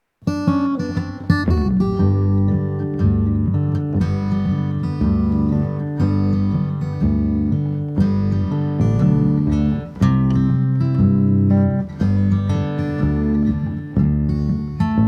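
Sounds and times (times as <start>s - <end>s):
acoustic guitar picked and strummed: 0.2s - 15.0s.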